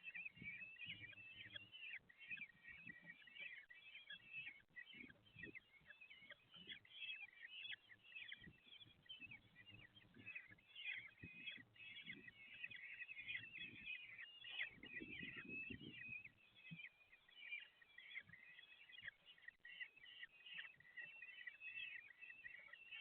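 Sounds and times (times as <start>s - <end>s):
chicks chirping: 0.0s - 23.0s.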